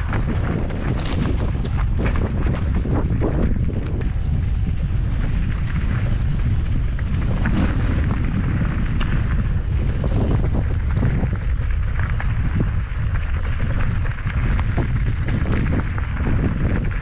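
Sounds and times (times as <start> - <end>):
bike tyres rattling on dirt trail: 0.0 - 17.0
wind rumbling on microphone: 0.0 - 17.0.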